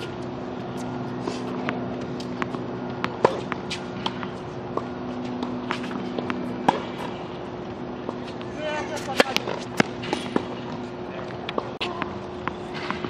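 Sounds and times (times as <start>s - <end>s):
tennis ball bouncing on court: 0.0s - 7.3s, 8.0s - 13.0s
steady low hum: 0.0s - 13.0s.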